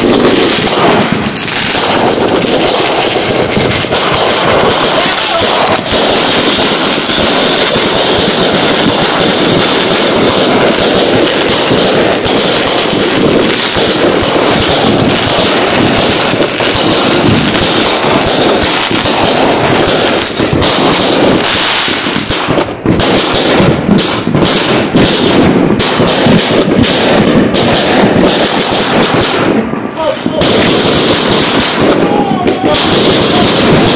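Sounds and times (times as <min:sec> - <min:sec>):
fireworks launching and bursting: 0:00.0 - 0:33.9.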